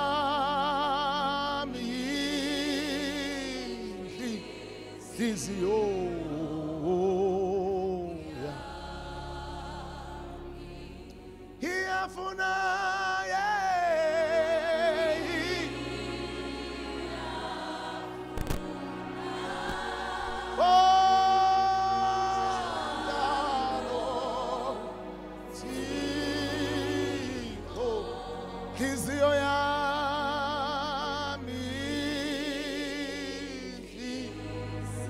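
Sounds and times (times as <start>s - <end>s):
gospel worship singing: 0.0s - 35.0s
low musical backing: 0.0s - 35.0s.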